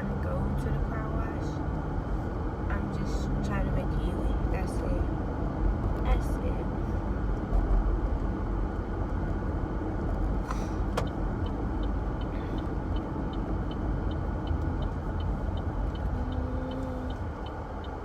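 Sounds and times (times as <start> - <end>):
car cabin rumble: 0.0 - 18.0
turn signal ticking: 0.0 - 18.0.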